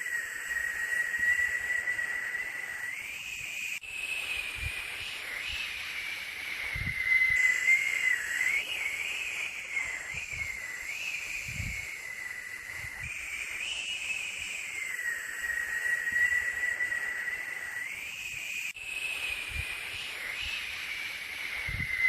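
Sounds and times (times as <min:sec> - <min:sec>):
high wavering whistling tone: 0:00.0 - 0:22.0
white noise hiss: 0:00.0 - 0:22.0.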